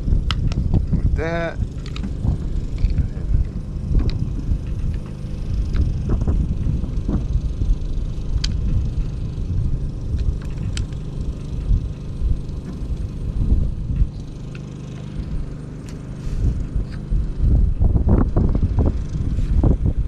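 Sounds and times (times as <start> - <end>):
steady low hum: 0.0 - 20.0
wind rumbling on microphone: 0.0 - 20.0.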